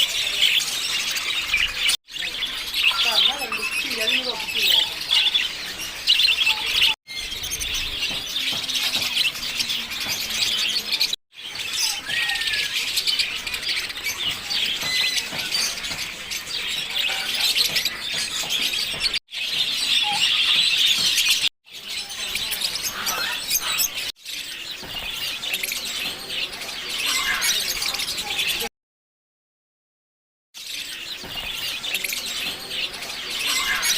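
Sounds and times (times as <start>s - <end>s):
lovebirds chattering: 0.0s - 28.7s, 30.6s - 33.9s.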